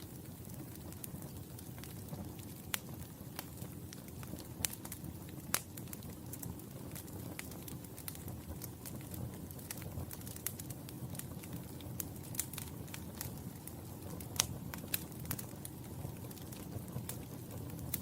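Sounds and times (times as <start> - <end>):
wood fire burning: 0.0 - 18.0.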